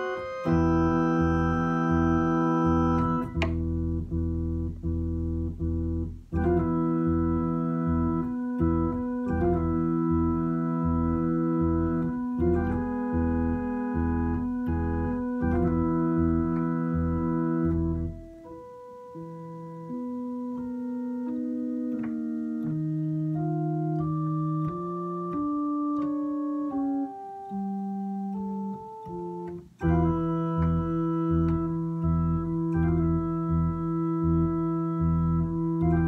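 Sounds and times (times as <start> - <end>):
organ playing slow music: 0.0 - 36.0.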